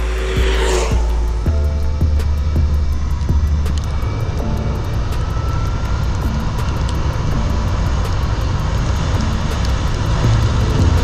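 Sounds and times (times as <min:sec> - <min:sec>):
heavy wind buffeting microphone: 0:00.0 - 0:11.0
road rush: 0:00.0 - 0:11.0.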